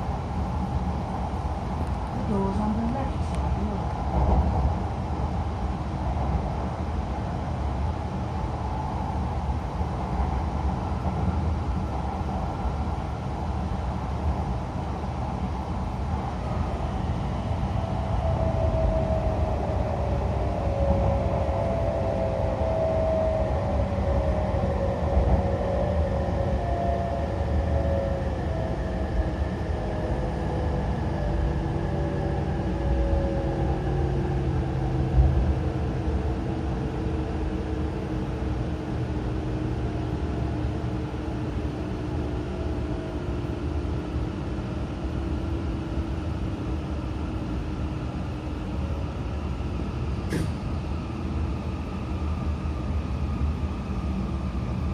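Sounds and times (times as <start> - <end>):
wheels rumbling on rails: 0.0 - 54.9.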